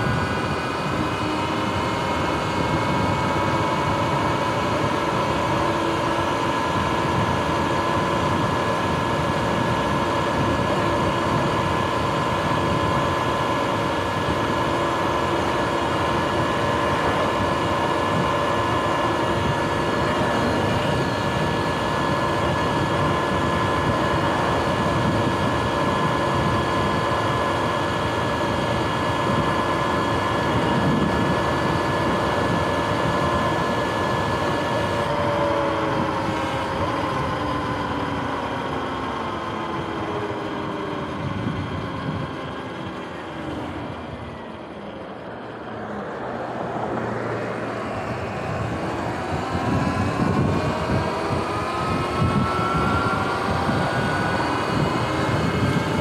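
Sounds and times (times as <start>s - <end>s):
wind buffeting microphone: 0.0s - 44.5s, 47.1s - 56.0s
electric motorbike whine: 0.0s - 56.0s.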